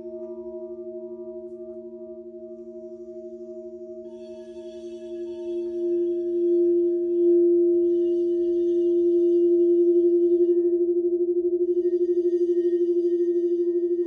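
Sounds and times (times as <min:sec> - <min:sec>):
crystal singing bowl hum: 0:00.0 - 0:14.0.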